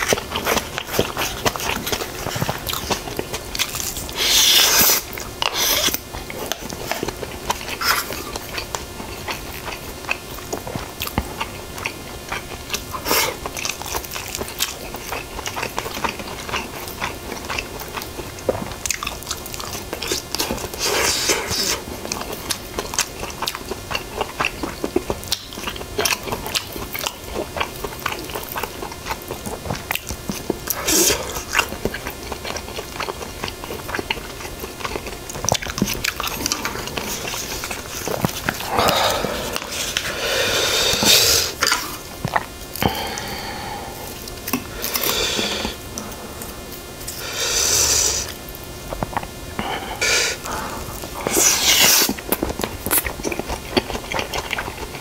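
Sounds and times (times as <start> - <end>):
man chewing food: 0.0 - 55.0.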